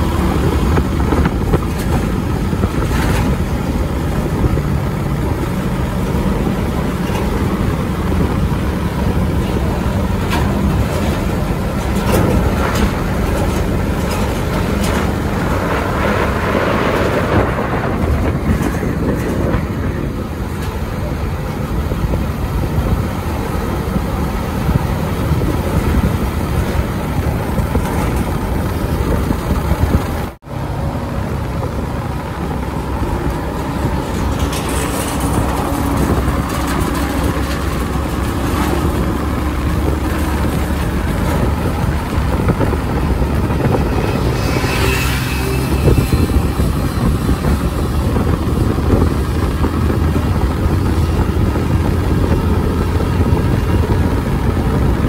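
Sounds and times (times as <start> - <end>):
truck diesel engines passing: 0.0 - 55.0.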